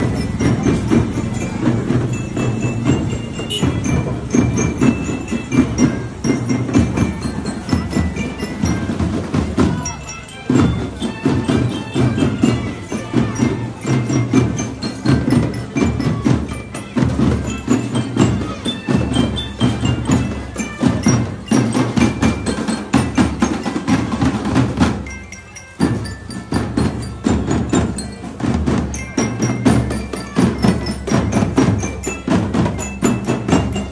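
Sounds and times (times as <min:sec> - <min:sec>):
bell lyres ringing: 0:00.0 - 0:33.9
marching drums and percussion: 0:00.0 - 0:33.9.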